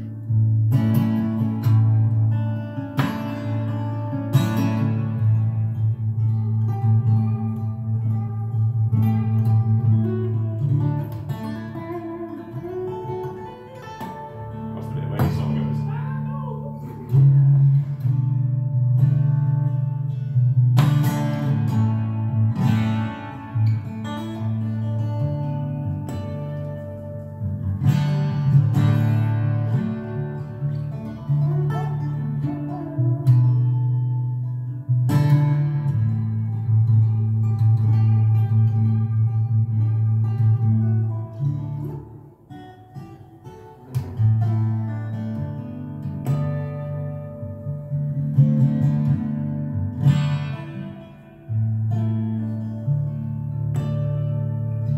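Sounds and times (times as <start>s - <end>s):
acoustic guitar playing: 0.0s - 54.9s.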